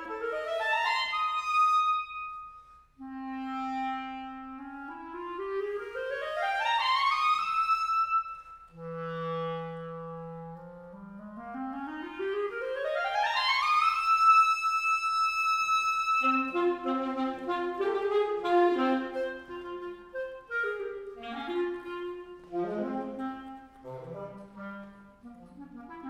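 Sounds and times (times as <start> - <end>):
clarinet glissandos: 0.0 - 26.0.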